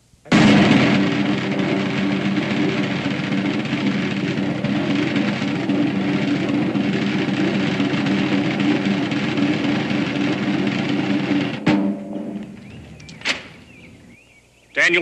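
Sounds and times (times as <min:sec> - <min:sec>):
snare drum roll: 0:00.3 - 0:14.1.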